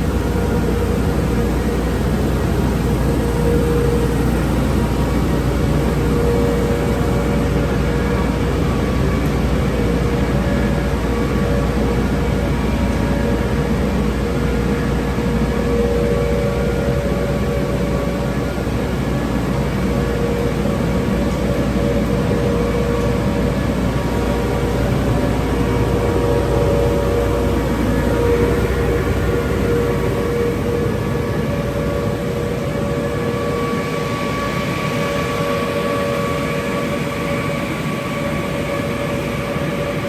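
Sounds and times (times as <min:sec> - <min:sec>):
car wash equipment rushing: 0:00.0 - 0:40.0
steady hum: 0:00.0 - 0:40.0.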